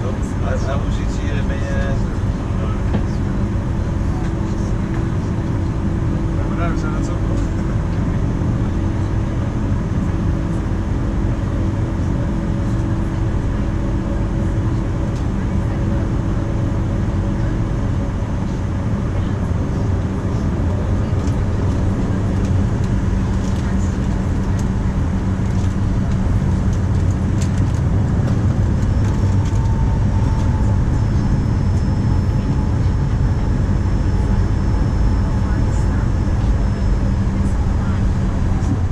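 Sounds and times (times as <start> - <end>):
airplane cabin engine rumble: 0.0 - 38.9
steady hum: 0.0 - 38.9.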